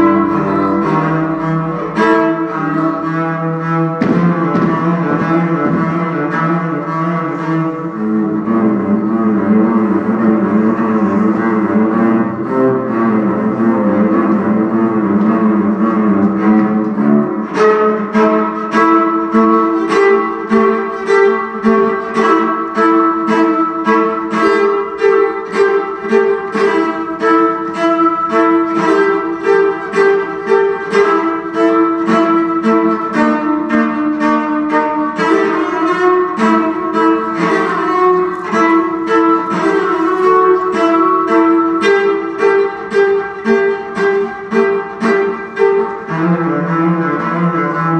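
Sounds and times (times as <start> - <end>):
solo cello playing: 0.0 - 47.9.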